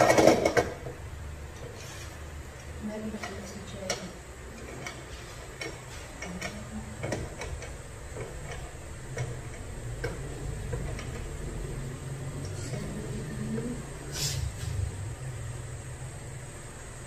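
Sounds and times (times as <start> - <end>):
balance riders clicking: 0.0 - 14.1
low steady hum: 0.0 - 17.0.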